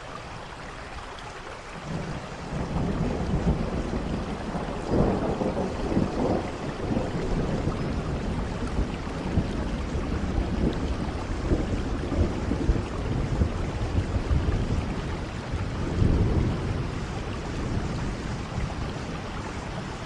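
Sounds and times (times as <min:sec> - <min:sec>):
steady rain: 0:00.0 - 0:20.0
low thunder rumble: 0:01.8 - 0:20.0.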